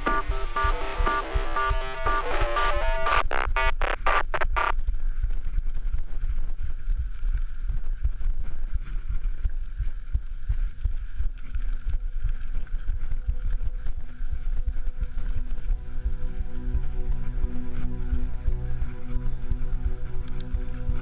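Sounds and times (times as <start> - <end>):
wind rumbling on microphone: 4.0 - 21.0.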